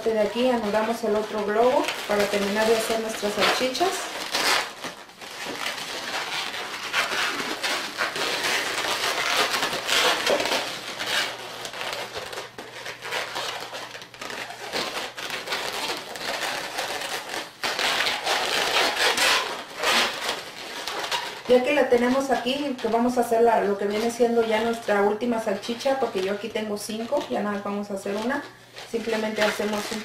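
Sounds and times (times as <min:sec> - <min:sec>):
balloons rubbing and crinkling: 0:00.0 - 0:30.0.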